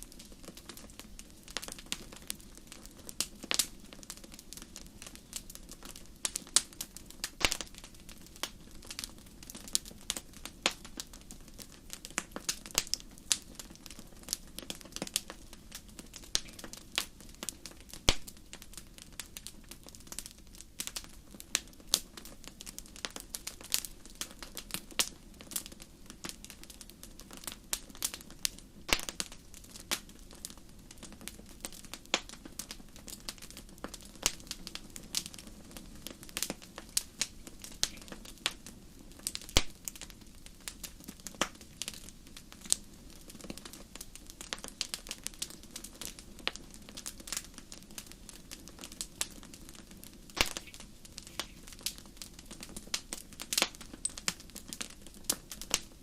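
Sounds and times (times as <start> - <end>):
soft low background noise: 0.0 - 56.0
wood fire crackling: 0.0 - 56.0.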